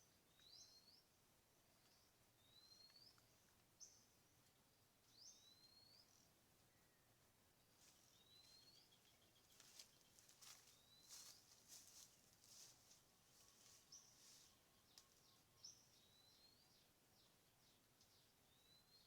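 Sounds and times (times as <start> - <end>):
low background hiss: 0.0 - 19.0.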